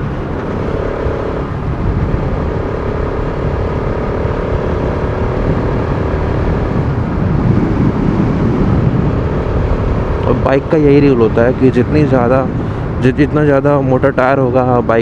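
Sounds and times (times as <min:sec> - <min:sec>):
motorcycle engine running: 0:00.0 - 0:15.0
road and wind rumble: 0:00.0 - 0:15.0.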